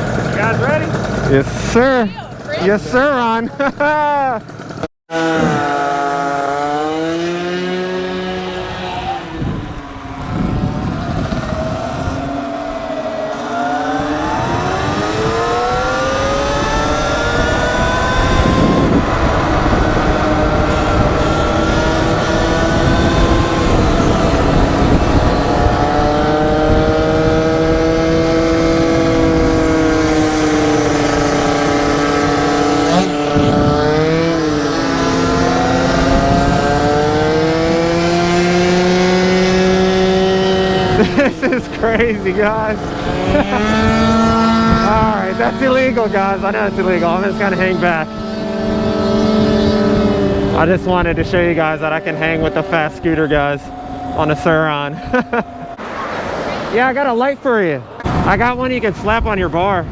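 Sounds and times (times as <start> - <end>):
scooter engine accelerating: 0.0 - 59.9
wind rushing: 8.0 - 56.9, 58.0 - 59.9.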